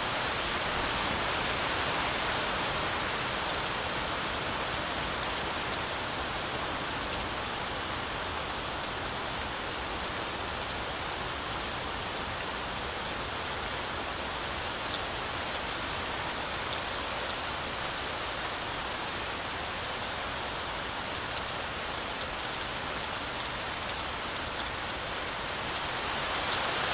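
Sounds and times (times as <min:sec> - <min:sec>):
heavy rain through trees: 0:00.0 - 0:26.9.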